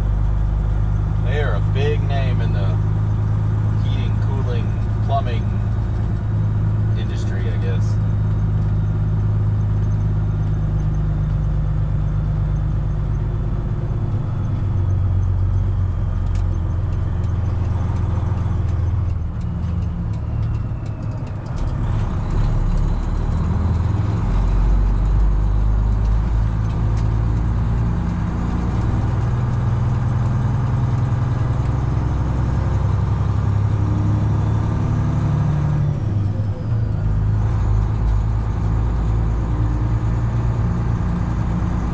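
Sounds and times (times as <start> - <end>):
truck engine drone: 0.0 - 41.9.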